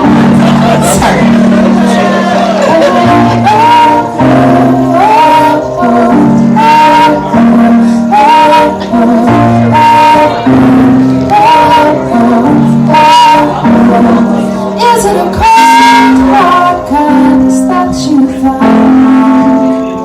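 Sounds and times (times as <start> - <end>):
live band music: 0.0 - 20.0
woman singing: 2.6 - 20.0.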